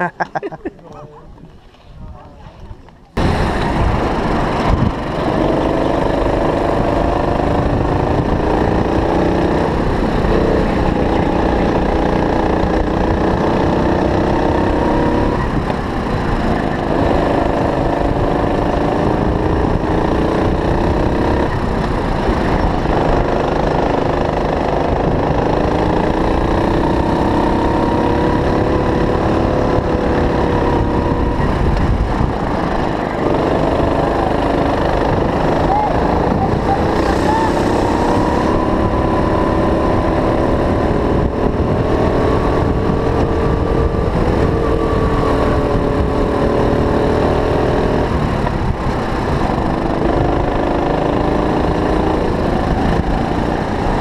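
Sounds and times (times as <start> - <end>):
go-kart engine revving: 3.2 - 54.0.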